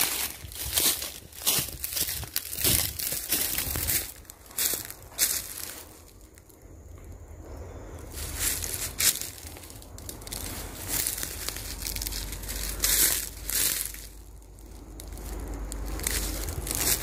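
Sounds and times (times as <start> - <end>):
footsteps crunching through dry leaves: 0.0 - 17.0.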